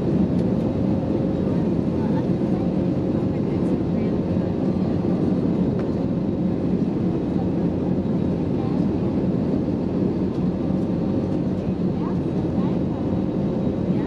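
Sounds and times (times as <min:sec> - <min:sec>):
airplane cabin roar: 0:00.0 - 0:14.0.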